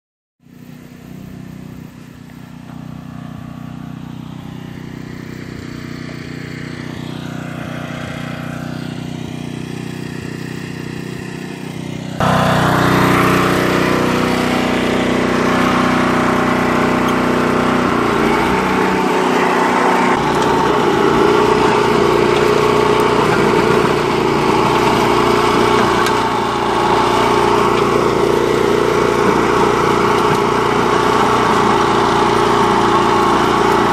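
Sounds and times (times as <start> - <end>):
small petrol engine running: 0.4 - 33.9.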